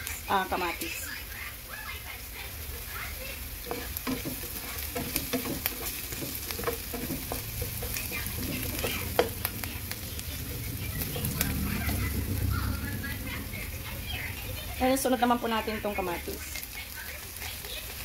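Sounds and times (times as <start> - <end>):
onion and garlic sizzling: 0.0 - 18.0
spatula scraping and tapping pan: 2.6 - 18.0.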